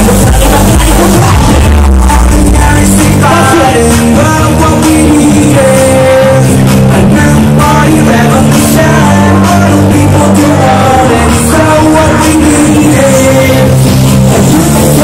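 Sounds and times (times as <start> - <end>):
loud hip hop beat: 0.0 - 15.0
rapping through a microphone: 0.0 - 15.0.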